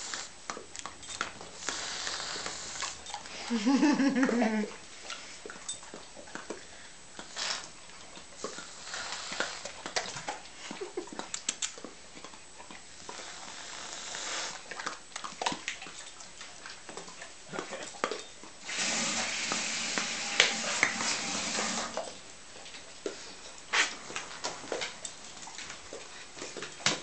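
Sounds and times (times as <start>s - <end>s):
dogs licking and lip smacking: 0.1s - 18.6s, 22.0s - 27.0s.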